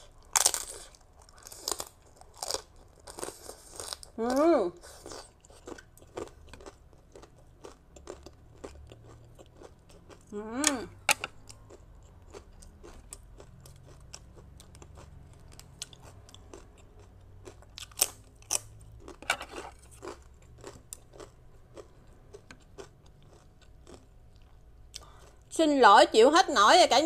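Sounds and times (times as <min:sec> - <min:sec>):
chewing crisp rice cracker: 0:00.0 - 0:25.5.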